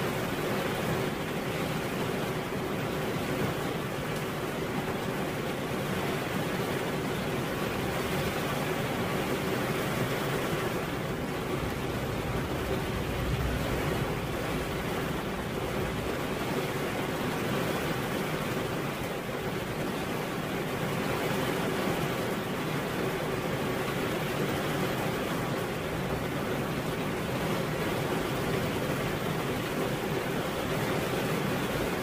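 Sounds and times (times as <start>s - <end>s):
rain falling steadily: 0.0s - 32.0s.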